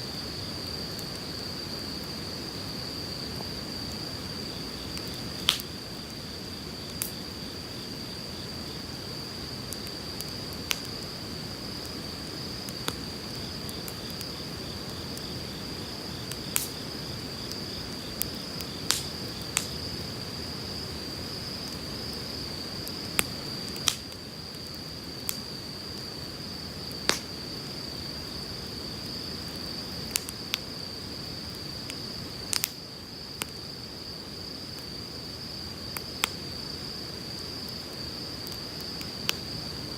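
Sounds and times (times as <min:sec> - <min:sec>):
campfire crackling and popping: 0:02.0 - 0:27.6, 0:28.2 - 0:33.6, 0:35.9 - 0:36.5, 0:37.1 - 0:39.7.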